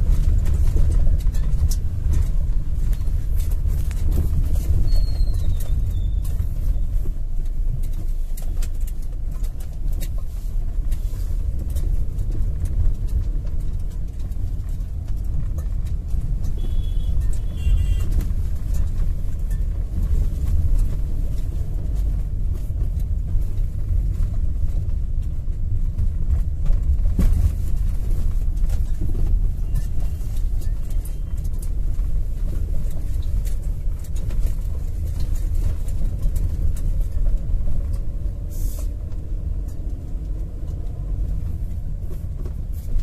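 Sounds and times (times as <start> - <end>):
car engine and tyres rumbling: 0.0 - 43.0
knocks and rattles over bumps: 0.0 - 43.0.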